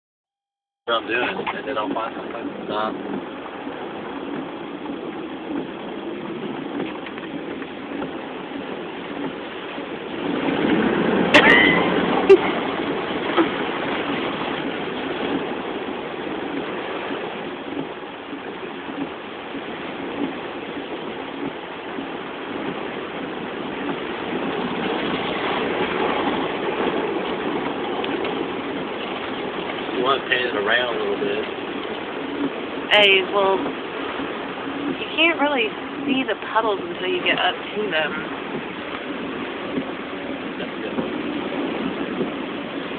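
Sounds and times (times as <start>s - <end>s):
car road and engine noise: 0.9s - 42.9s.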